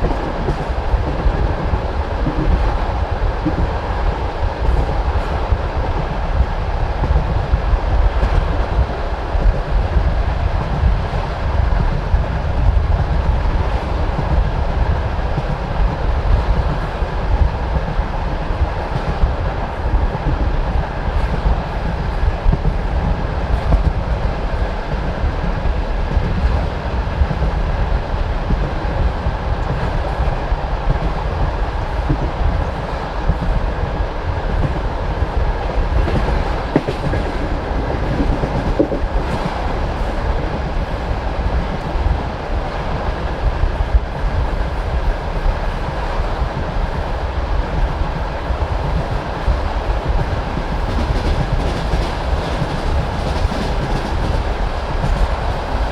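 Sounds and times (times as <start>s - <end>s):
train wheels rumbling on track: 0.0s - 55.9s.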